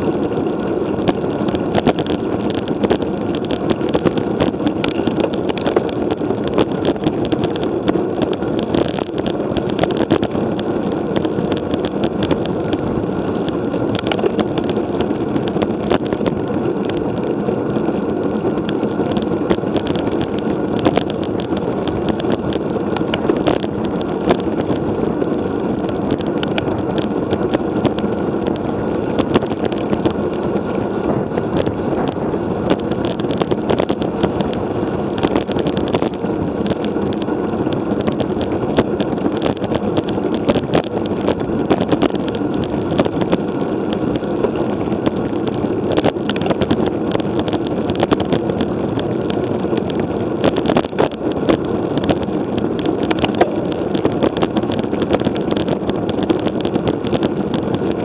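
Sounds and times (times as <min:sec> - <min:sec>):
bicycle clicks and rattles: 0:00.0 - 0:58.0
wind and road noise: 0:00.0 - 0:58.0.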